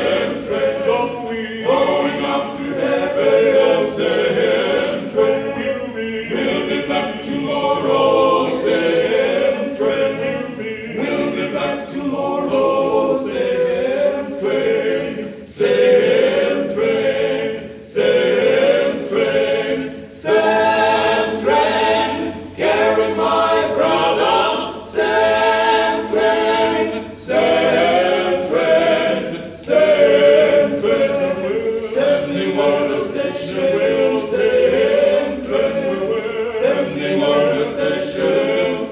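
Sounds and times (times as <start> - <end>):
male quartet singing a cappella: 0.0 - 38.9.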